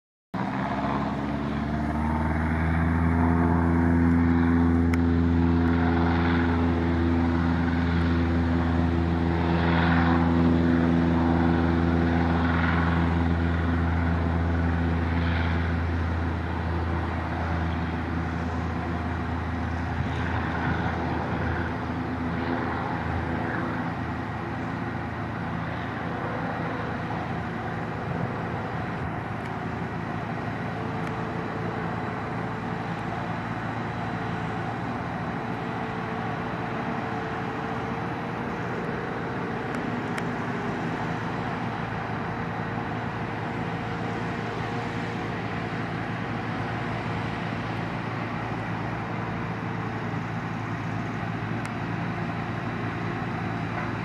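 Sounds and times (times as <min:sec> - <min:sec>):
propeller plane engine drone: 0:00.4 - 0:54.0.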